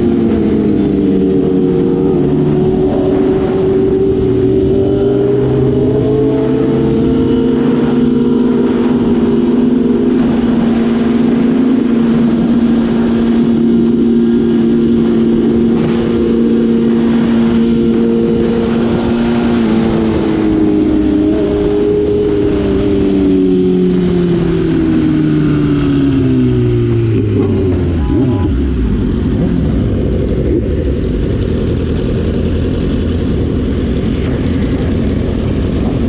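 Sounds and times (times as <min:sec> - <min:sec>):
motorcycle engine cruising: 0:00.0 - 0:36.0.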